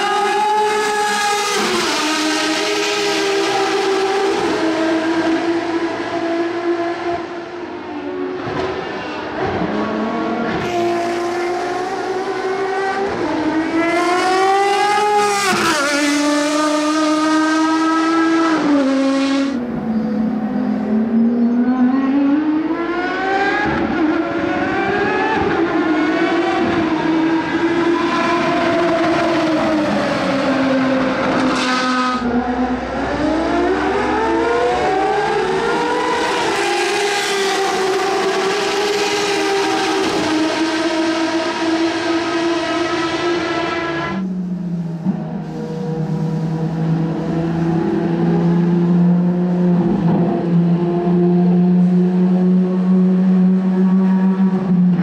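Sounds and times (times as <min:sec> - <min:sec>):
racing car engine accelerating: 0:00.0 - 0:55.0.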